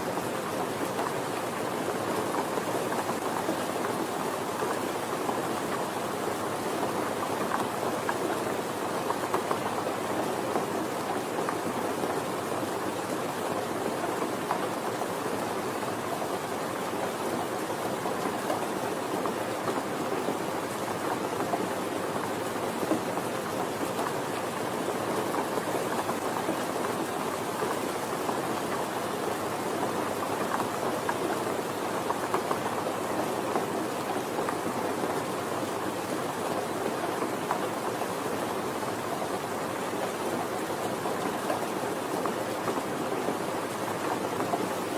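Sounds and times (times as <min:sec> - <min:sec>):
gentle rain falling: 0:00.0 - 0:44.9.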